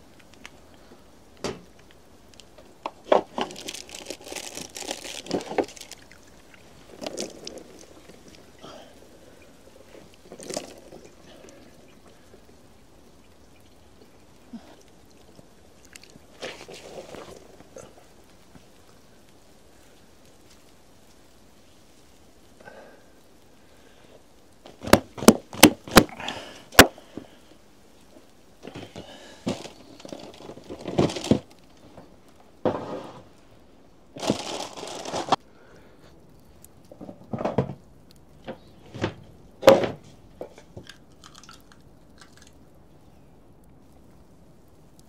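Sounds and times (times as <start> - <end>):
rustling and crinkling: 0.0 - 45.0.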